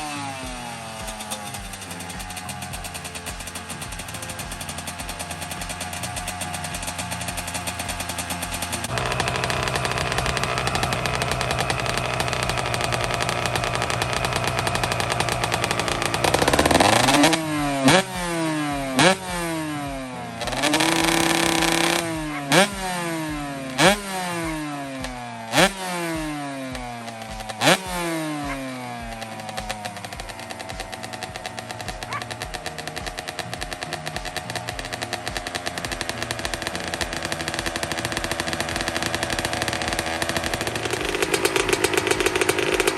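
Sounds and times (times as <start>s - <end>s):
two-stroke motorcycle engine revving: 0.0s - 42.9s.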